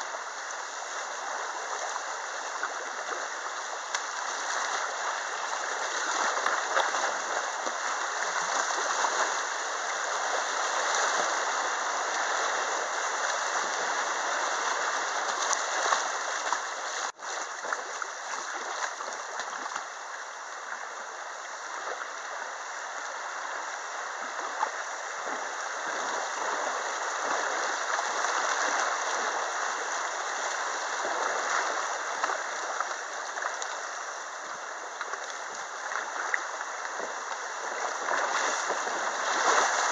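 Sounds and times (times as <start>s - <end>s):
whitewater rushing and splashing: 0.0s - 39.9s.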